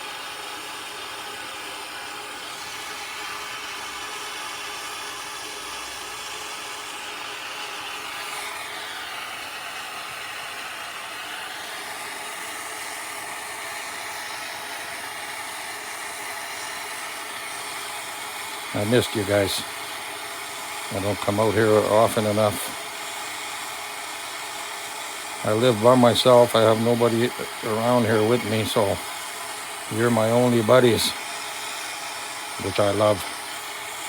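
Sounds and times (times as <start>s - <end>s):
gas torch flame hissing: 0.0s - 34.0s.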